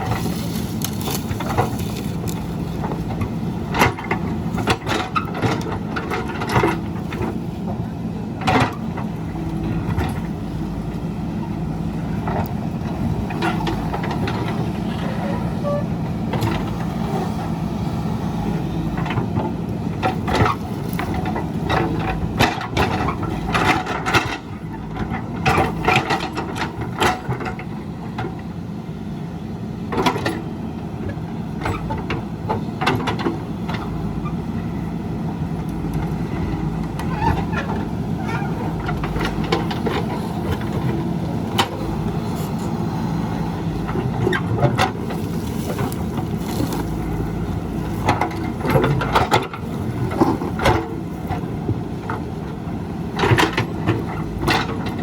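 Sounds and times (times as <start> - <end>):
digging knocks and clanks: 0.0 - 17.6, 18.5 - 28.4, 35.6 - 52.5, 53.1 - 55.0
diesel engine running: 0.0 - 55.0.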